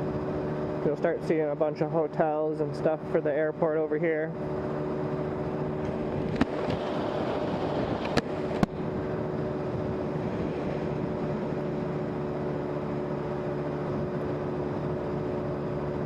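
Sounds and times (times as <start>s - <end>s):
vehicle running hum: 0.0s - 16.0s
wind and road noise: 0.0s - 16.0s.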